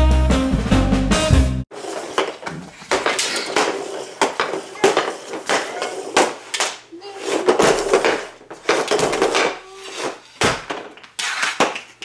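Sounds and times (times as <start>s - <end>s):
puck scraping across plastic tiles: 1.7s - 12.0s
hockey stick hitting puck: 1.9s - 12.0s.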